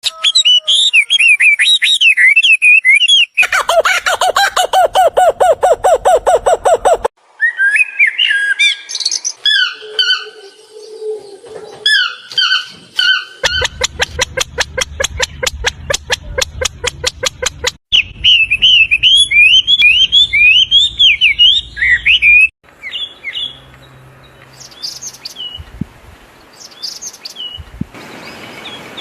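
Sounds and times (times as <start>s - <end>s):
bird chirps: 0.1s - 25.7s.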